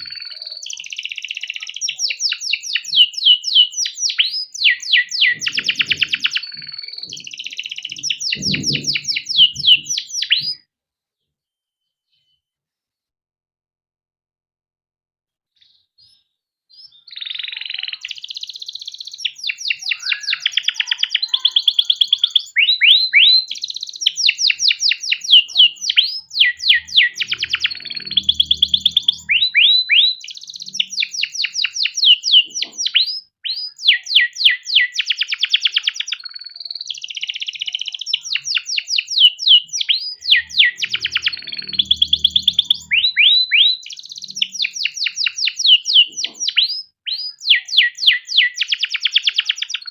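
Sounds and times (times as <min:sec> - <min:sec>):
canary singing trills: 0:00.0 - 0:10.6, 0:15.6 - 0:49.9.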